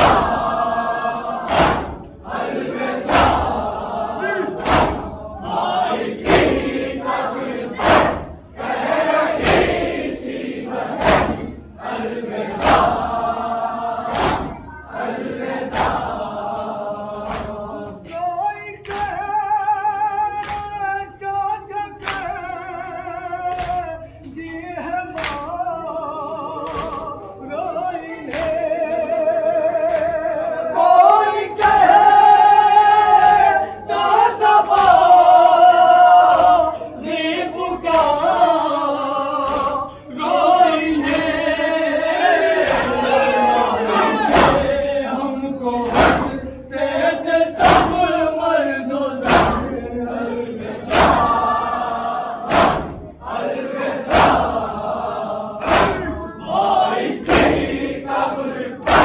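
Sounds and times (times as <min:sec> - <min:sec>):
men chanting in unison: 0:00.0 - 0:59.0
rhythmic chest-beating thumps: 0:00.0 - 0:59.0.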